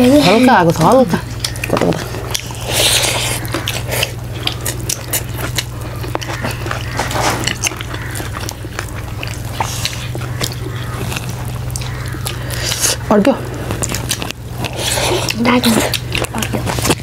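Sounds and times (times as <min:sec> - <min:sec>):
people chewing with wet smacks: 0:00.0 - 0:17.0
steady low hum: 0:00.0 - 0:17.0.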